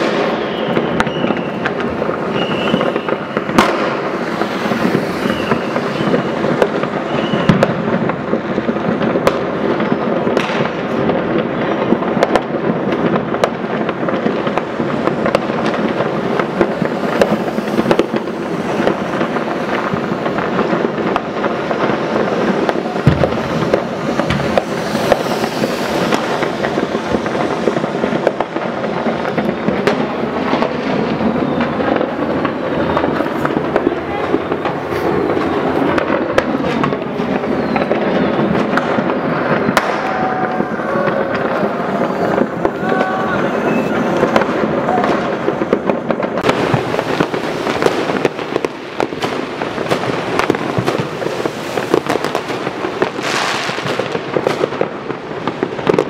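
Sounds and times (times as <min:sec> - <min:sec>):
firecrackers crackling: 0:00.0 - 0:56.0
fireworks bangs: 0:00.0 - 0:56.0.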